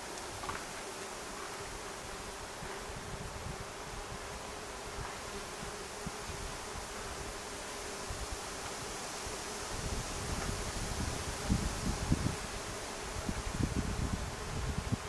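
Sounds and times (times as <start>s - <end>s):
faint outdoor hiss: 0.0s - 15.0s
wasps buzzing: 0.0s - 15.0s.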